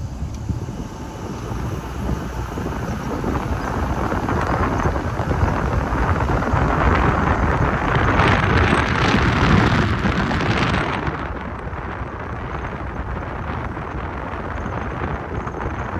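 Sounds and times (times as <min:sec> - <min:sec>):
car road and wind noise: 0:00.0 - 0:15.9.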